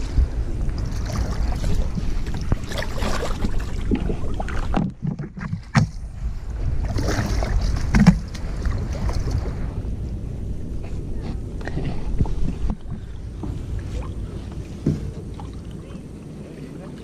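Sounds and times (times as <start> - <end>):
water splashing around a kayak: 0.0 - 17.0
wind on microphone: 0.0 - 17.0.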